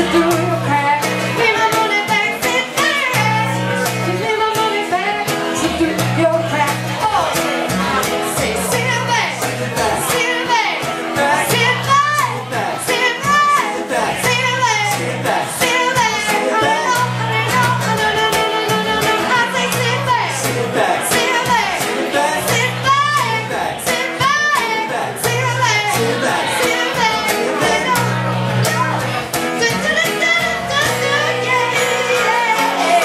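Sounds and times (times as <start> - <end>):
strummed acoustic guitar: 0.0 - 33.0
woman singing with vibrato: 0.0 - 33.0.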